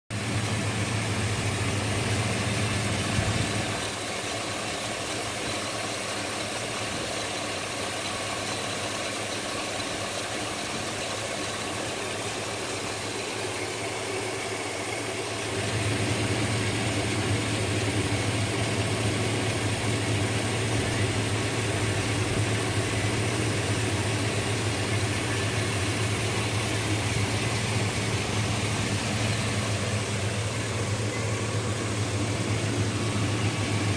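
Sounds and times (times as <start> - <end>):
truck engine idling: 0.1 - 33.9.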